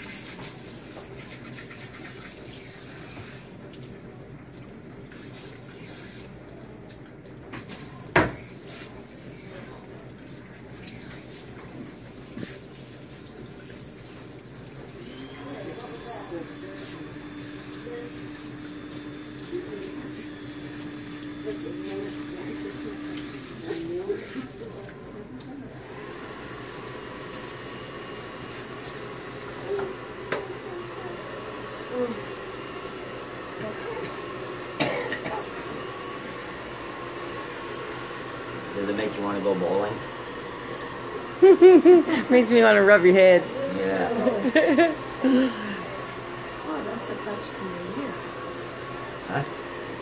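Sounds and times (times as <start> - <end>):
water running at a sink: 0.0 - 50.0.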